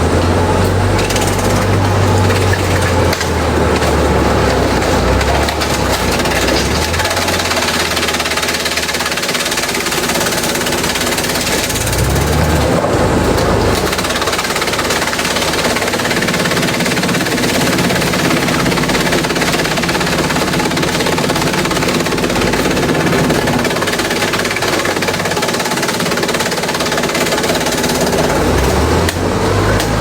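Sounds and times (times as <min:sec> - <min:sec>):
motor drone: 0:00.0 - 0:30.0
shredder mechanical noise: 0:00.0 - 0:30.0.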